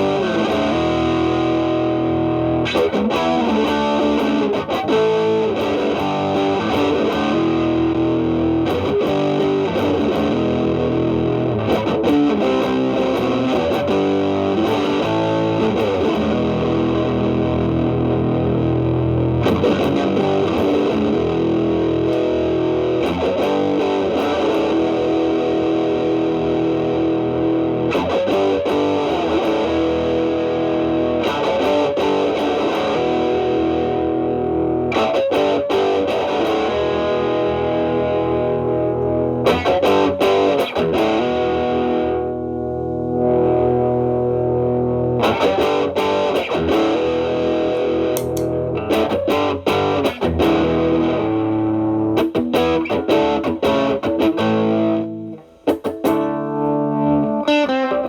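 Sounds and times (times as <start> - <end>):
lightly overdriven electric guitar: 0.0 - 58.0.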